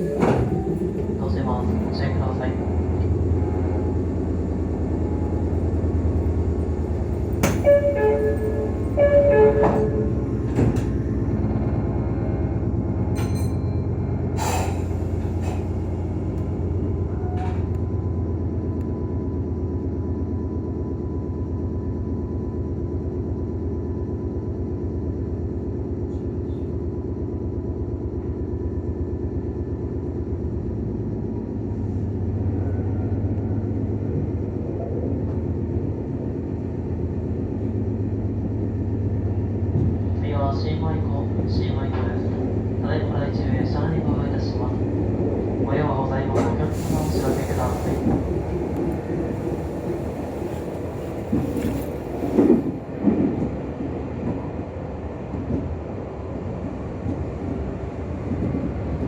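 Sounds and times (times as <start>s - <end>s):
train running rumble: 0.0s - 59.0s.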